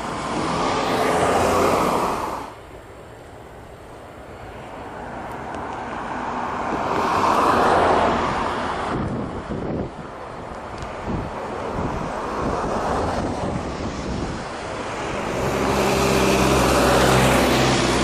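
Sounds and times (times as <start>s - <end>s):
vehicle passing by: 0.0s - 2.6s, 4.9s - 9.8s, 11.0s - 18.0s.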